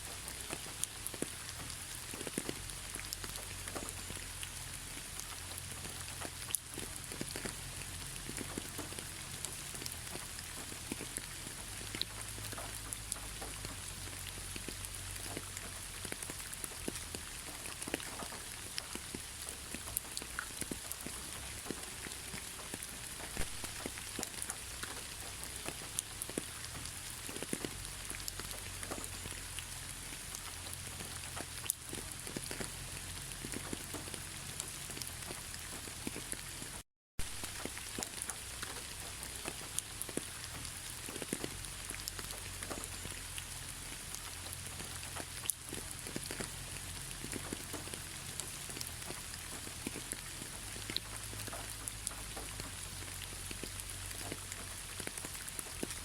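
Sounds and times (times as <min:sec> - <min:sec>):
rain drops ticking on a surface: 0:00.0 - 0:56.0
rain hiss: 0:00.0 - 0:56.0.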